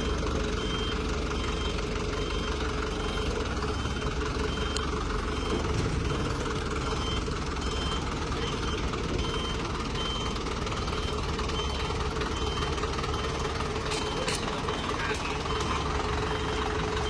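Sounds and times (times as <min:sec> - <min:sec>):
heavy truck engine running: 0:00.0 - 0:17.0.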